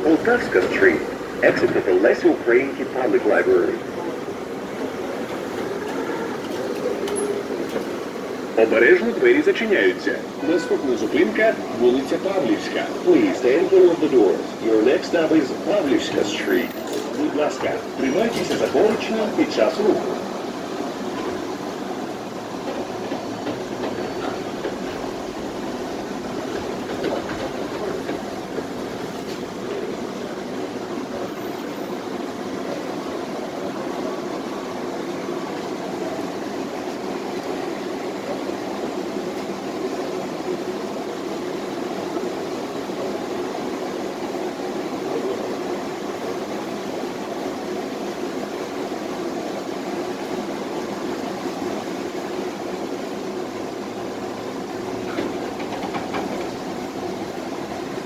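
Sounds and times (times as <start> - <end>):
tram wheels rumbling on rails: 0.0 - 58.0.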